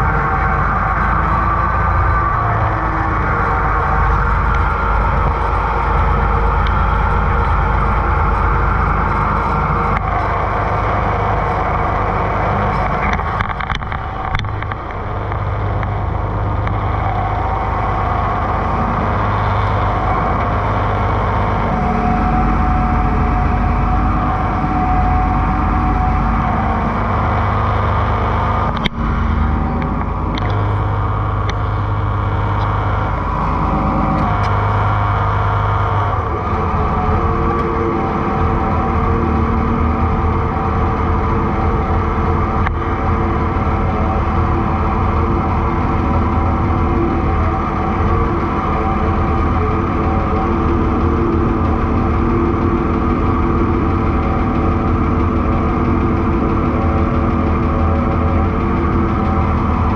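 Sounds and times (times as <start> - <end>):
farm machine engine running: 0.0 - 59.9.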